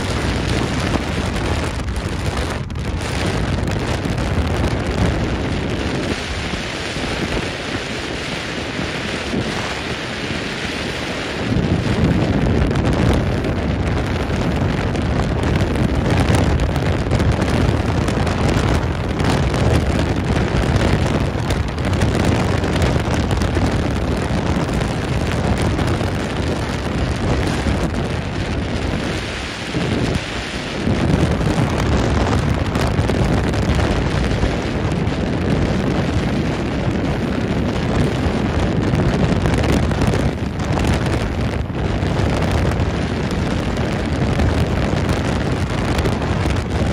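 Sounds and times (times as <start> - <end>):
boat rushing through water: 0.0 - 46.9
wind buffeting microphone: 0.0 - 46.9.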